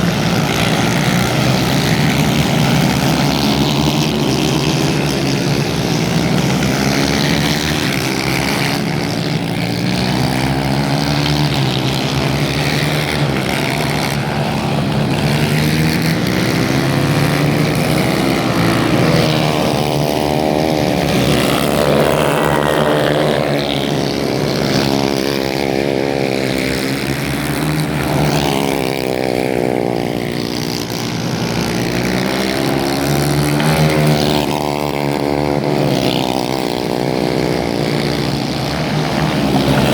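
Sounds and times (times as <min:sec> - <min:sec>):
racing kart engines revving: 0:00.0 - 0:39.9.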